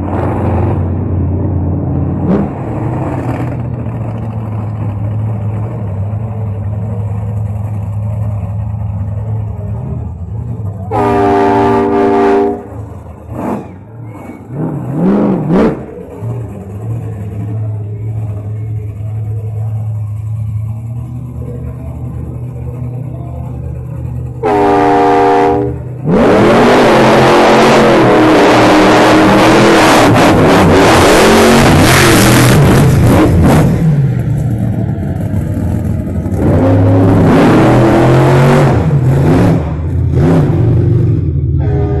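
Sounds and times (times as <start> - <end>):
monster truck engines revving: 0.0 - 42.0.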